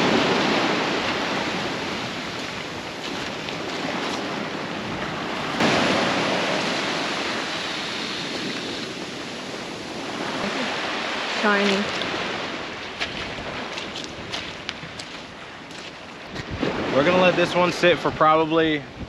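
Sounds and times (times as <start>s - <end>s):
wave crashing: 0.0s - 18.7s
ocean surf: 0.0s - 19.0s.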